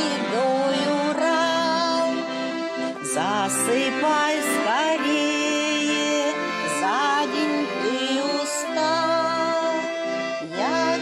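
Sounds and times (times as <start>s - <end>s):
accordions playing slow chords: 0.0s - 11.0s.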